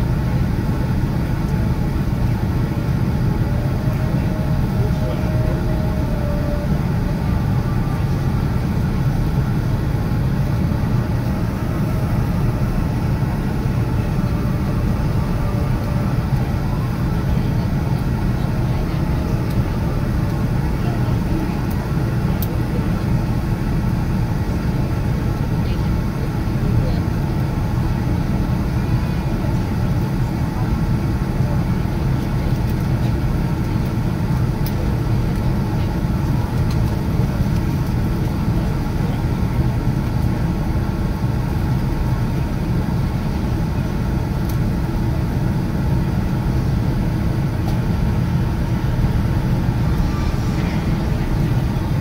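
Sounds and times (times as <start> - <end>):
airliner engines rumbling: 0.0 - 52.0.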